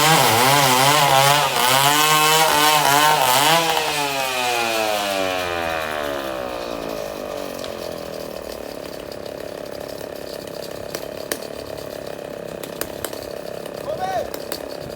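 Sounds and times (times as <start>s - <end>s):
chainsaw engine idling: 0.0s - 14.9s.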